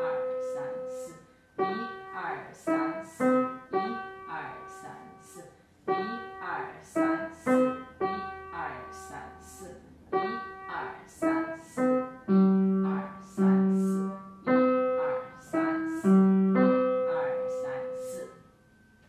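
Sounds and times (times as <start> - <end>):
piano melody: 0.0 - 5.3, 5.9 - 18.4
woman counting aloud: 0.0 - 11.8, 12.8 - 14.2, 14.8 - 16.2, 17.0 - 18.4.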